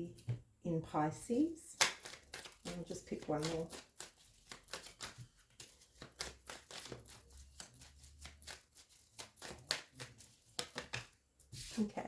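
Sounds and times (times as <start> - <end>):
cards being shuffled: 1.8 - 11.8.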